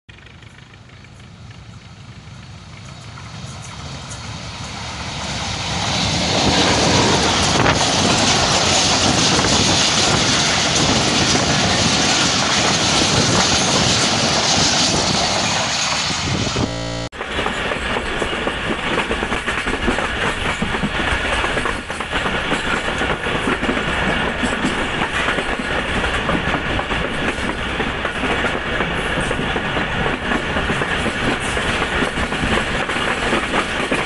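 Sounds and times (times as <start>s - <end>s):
train wheels on rails: 0.1s - 16.4s, 17.3s - 34.0s.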